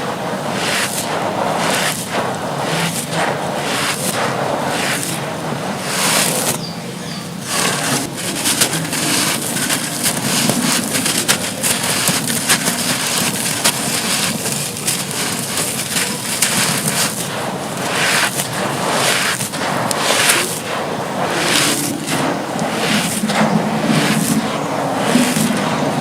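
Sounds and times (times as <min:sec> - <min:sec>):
brittle material crunching: 0:02.7 - 0:06.7, 0:07.5 - 0:25.7.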